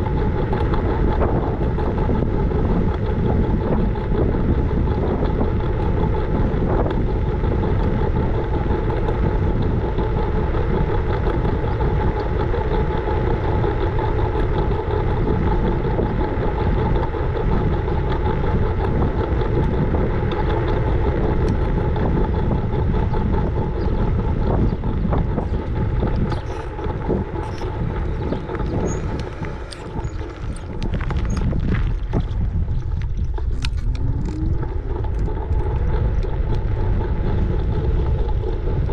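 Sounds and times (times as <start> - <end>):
scooter wheel and road rumble: 0.0 - 38.9
steady whine: 0.0 - 38.9
wind on microphone: 0.0 - 38.9.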